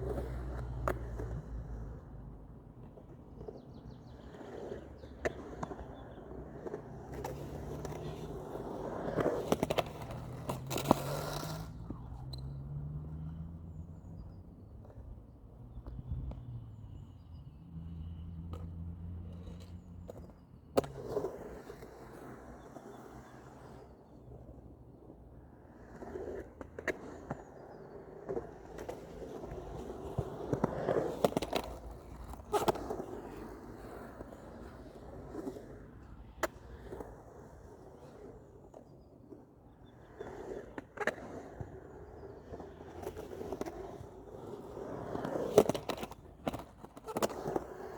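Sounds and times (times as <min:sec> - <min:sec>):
skateboard wheels rolling: 0:00.0 - 0:47.9
skateboard clack: 0:02.7 - 0:12.4, 0:18.5 - 0:47.9.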